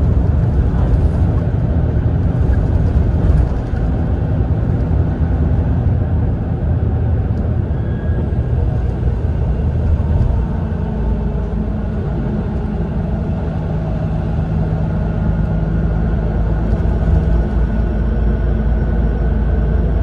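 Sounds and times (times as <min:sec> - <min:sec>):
coach engine and road rumble: 0:00.0 - 0:20.0.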